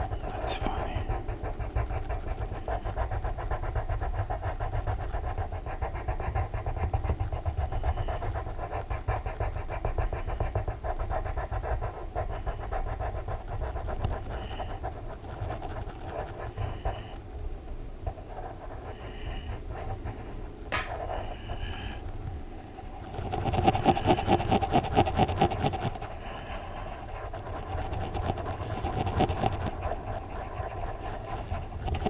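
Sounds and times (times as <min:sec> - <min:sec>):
pencil scratching on paper: 0:00.0 - 0:17.1, 0:22.8 - 0:32.0.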